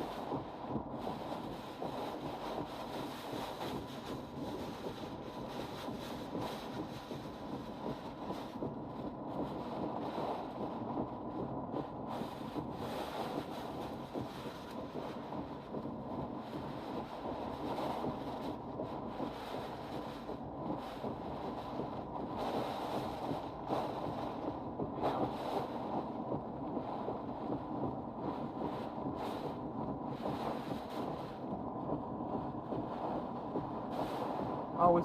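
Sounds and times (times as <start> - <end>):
hurricane wind and rain: 0.0 - 35.0
wind buffeting microphone: 0.0 - 35.0.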